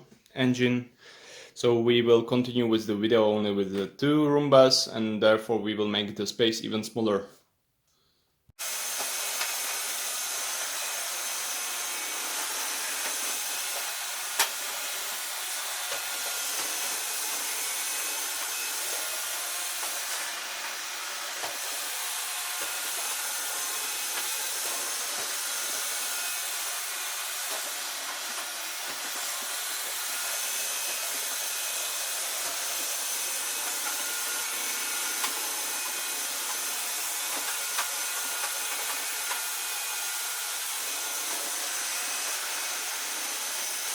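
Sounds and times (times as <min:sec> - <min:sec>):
robot vacuum whirring: 0:08.6 - 0:43.9.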